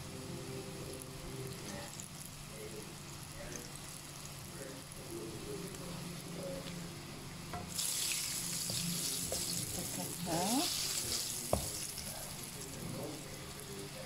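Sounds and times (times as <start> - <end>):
food deep-frying in hot oil: 0.0 - 14.0.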